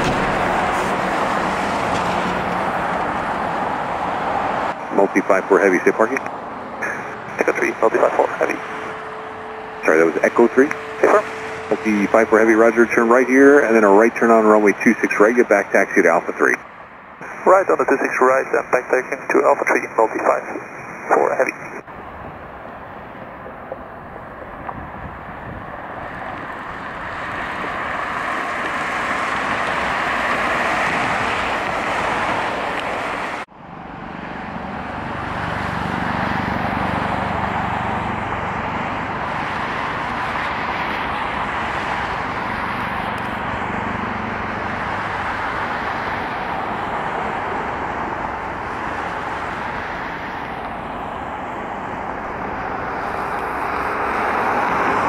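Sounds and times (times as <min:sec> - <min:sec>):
jet engines taxiing: 0:00.0 - 0:55.0
road traffic: 0:00.0 - 0:55.0.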